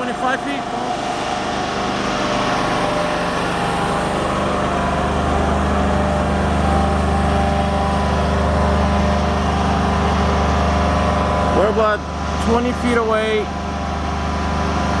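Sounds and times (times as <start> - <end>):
engine humming at high speed: 0.0 - 15.0.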